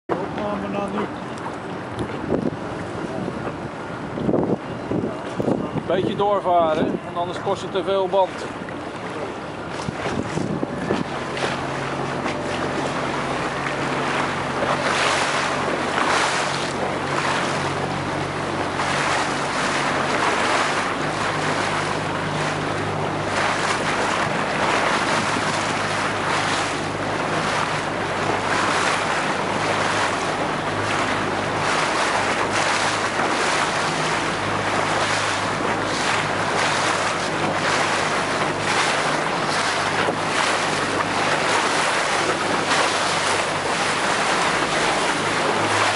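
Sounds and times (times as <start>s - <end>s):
boat motor humming: 0.0s - 45.9s
water slapping hull: 0.1s - 45.9s
wind buffeting microphone: 0.1s - 45.9s.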